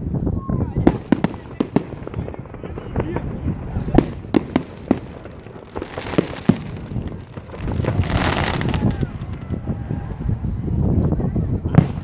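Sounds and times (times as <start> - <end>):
fireworks bangs: 0.5 - 12.0
firework rushing hiss: 0.9 - 11.0.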